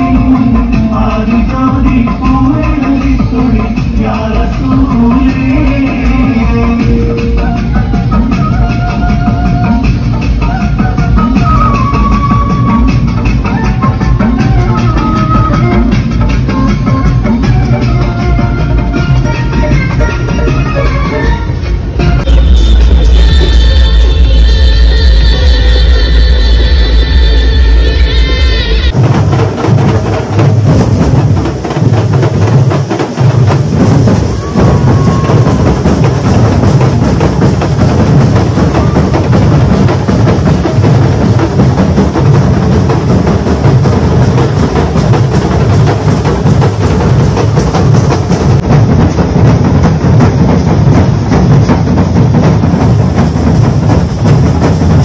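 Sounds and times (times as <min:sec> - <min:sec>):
loud music with heavy drumming: 0:00.0 - 0:55.0.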